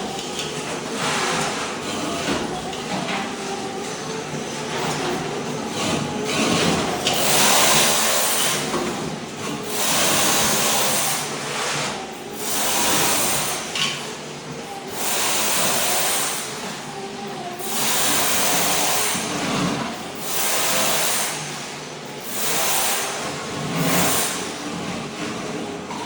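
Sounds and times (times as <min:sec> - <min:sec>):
floor scraper blade scraping concrete: 0:00.0 - 0:26.0.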